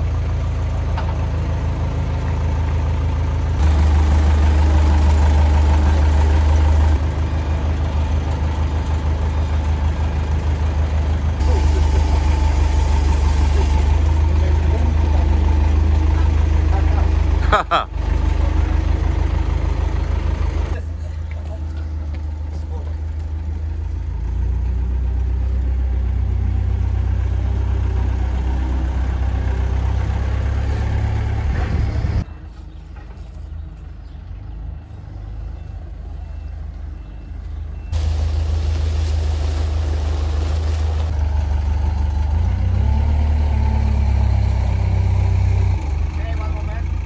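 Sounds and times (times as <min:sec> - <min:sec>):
forklift diesel engine droning: 0:00.0 - 0:47.0.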